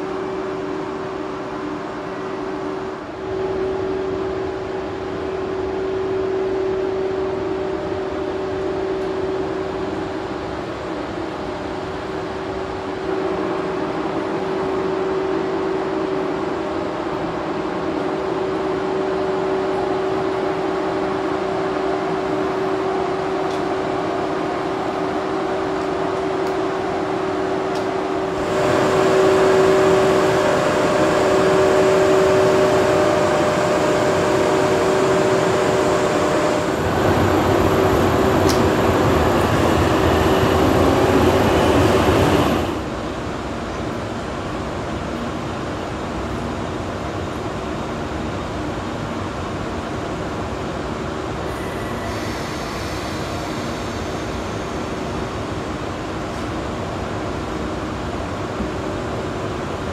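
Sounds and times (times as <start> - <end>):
electric locomotive machinery humming: 0.0 - 59.9.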